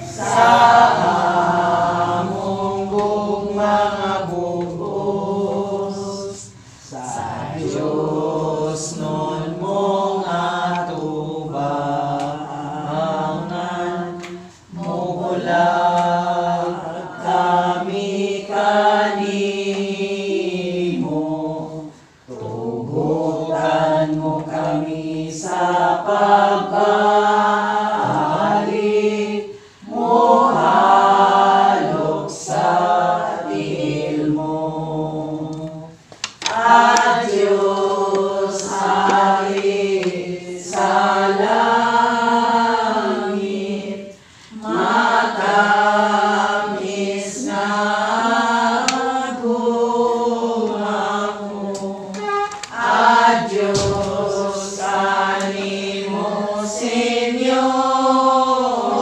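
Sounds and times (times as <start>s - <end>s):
group singing a hymn: 0.0s - 59.0s.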